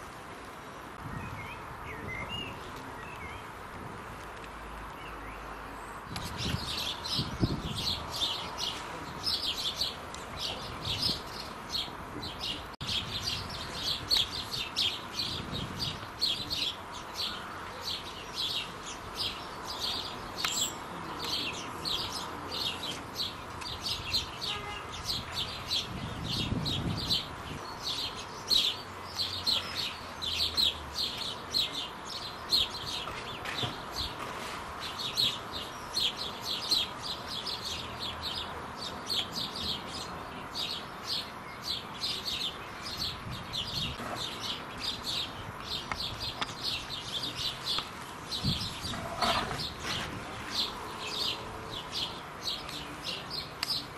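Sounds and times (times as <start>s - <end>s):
sparrows chirping: 0.7s - 3.6s, 4.9s - 53.9s.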